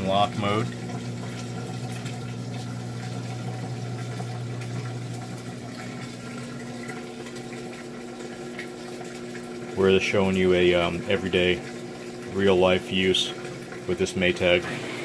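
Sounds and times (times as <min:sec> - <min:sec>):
washer drain pump humming: 0:00.0 - 0:15.0.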